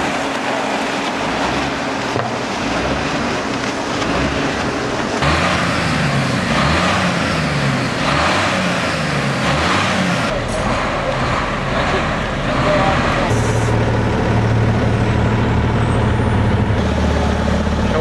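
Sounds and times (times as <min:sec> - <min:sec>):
engine pitch rising and falling: 0:00.0 - 0:18.0
loud rushing noise: 0:00.0 - 0:18.0
vehicle engines running: 0:00.0 - 0:18.0.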